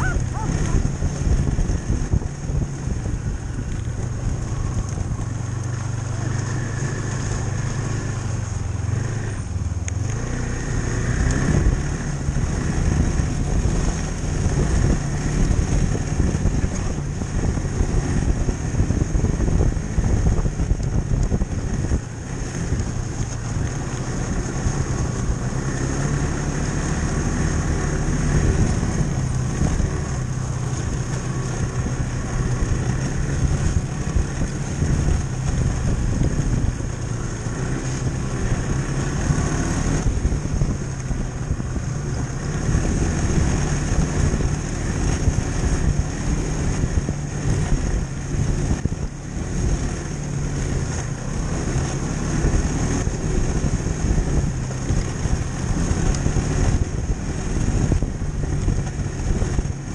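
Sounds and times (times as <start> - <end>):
snowmobile engine drone: 0.0 - 59.9.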